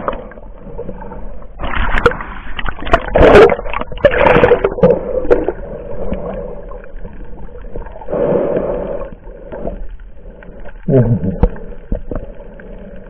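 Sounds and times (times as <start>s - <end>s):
muffled water sloshing and bubbling: 0.0s - 13.0s.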